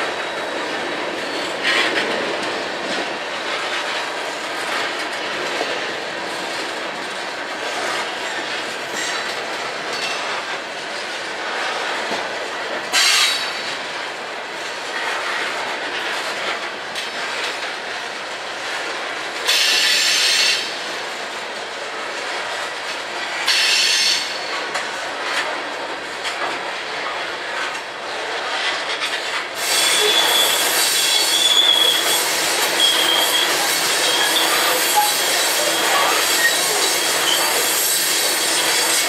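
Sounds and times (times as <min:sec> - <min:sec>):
train wheels clattering on rails: 0:00.0 - 0:39.0.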